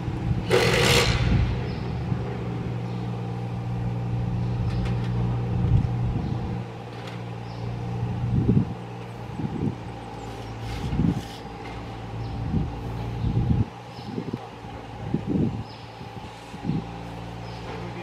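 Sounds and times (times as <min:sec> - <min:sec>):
machine engine running: 0:00.0 - 0:18.0.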